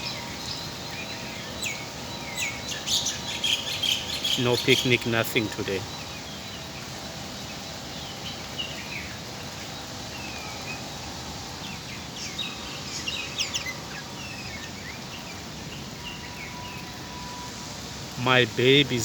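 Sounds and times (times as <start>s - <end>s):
birds chirping: 0.0s - 19.0s
heavy rain hissing: 0.0s - 19.0s.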